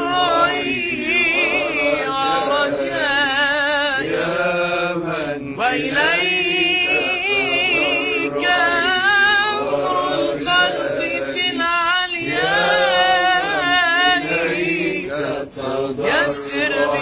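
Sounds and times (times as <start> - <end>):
men singing a devotional hymn: 0.0 - 17.0.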